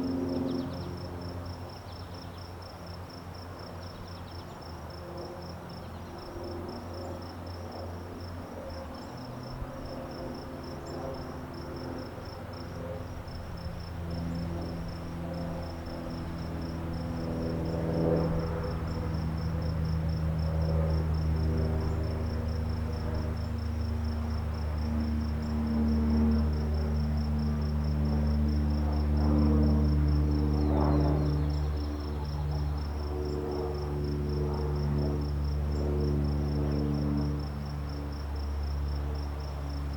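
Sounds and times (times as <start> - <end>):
cricket chirping: 0.0 - 39.9
low hum of steady tones: 0.0 - 39.9.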